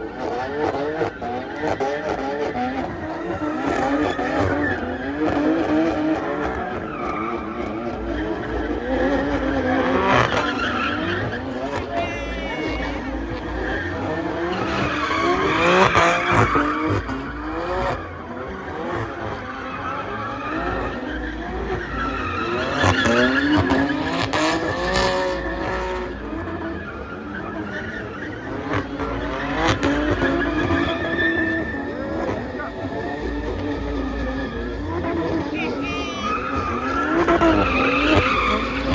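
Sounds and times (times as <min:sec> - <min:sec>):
car engines revving: 0:00.0 - 0:38.9
tyre squeal: 0:00.2 - 0:38.9.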